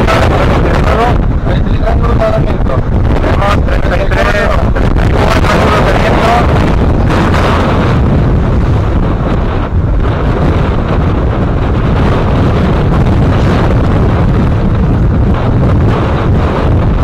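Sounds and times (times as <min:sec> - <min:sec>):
strong wind buffeting microphone: 0:00.0 - 0:17.0
waves breaking along hull: 0:00.0 - 0:17.0.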